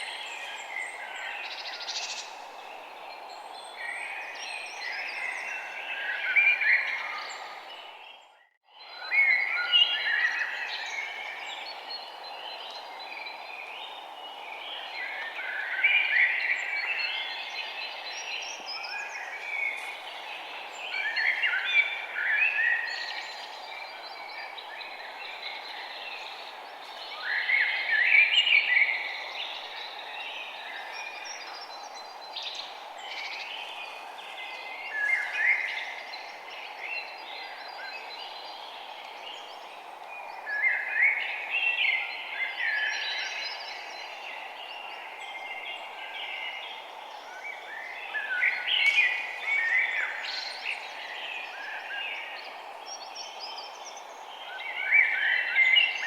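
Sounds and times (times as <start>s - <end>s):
songbirds chirping and trilling: 0.0s - 56.0s
steady background hiss: 9.7s - 56.0s.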